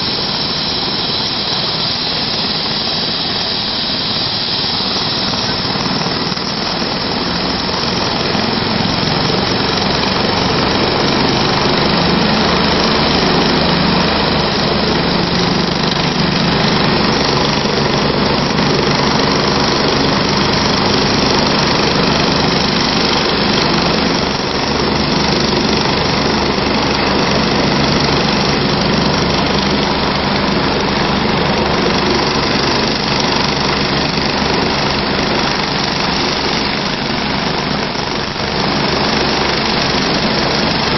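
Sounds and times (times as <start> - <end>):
helicopter turbine and rotor: 0.0 - 40.9.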